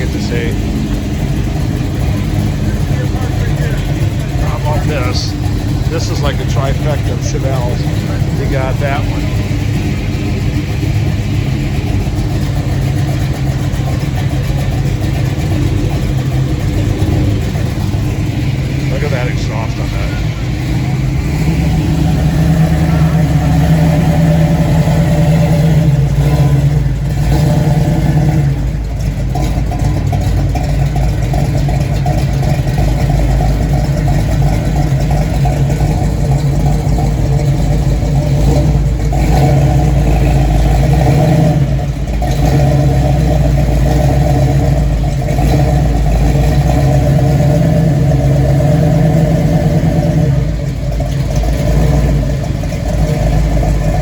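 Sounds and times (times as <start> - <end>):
car engine idling loudly: 0.0 - 54.0.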